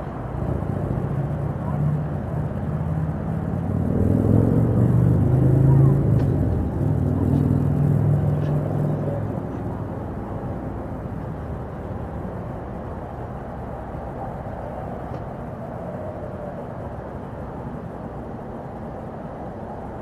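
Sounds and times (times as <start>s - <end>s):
motor vehicle noise: 0.0s - 20.0s.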